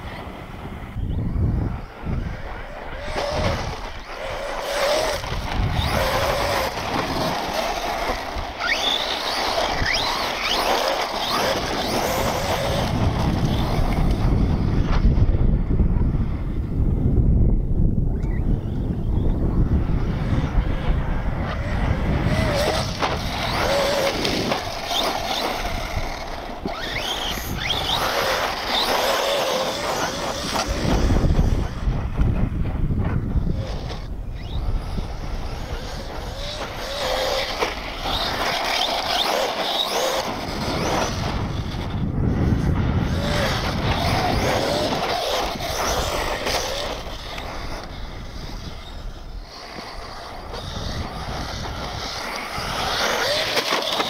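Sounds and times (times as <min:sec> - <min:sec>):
rc truck motor whine: 0:00.0 - 0:54.0
wind on microphone: 0:00.0 - 0:54.0.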